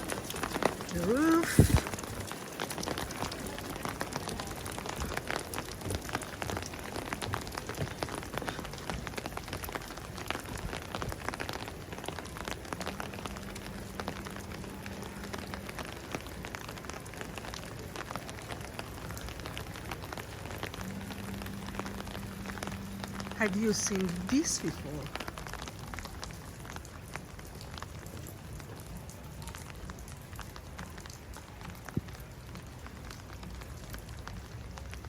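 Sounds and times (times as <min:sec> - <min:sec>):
steady rain: 0:00.0 - 0:35.0.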